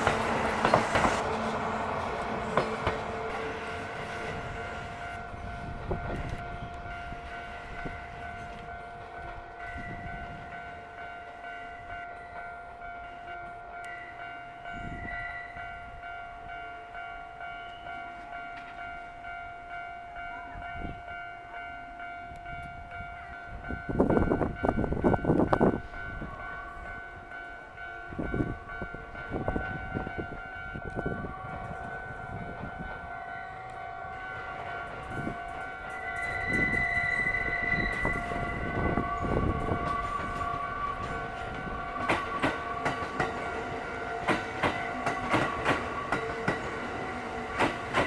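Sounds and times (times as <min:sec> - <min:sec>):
level crossing warning bell: 0:00.0 - 0:48.0.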